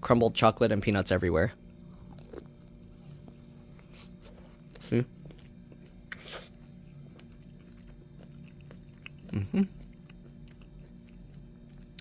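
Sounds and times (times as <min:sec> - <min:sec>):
faint chewing crunches: 0:01.8 - 0:12.0.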